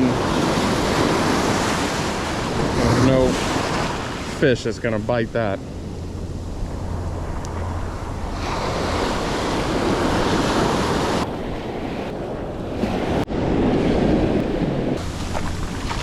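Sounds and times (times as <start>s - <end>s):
surf waves breaking: 0.0s - 16.0s
wind on microphone: 0.0s - 16.0s.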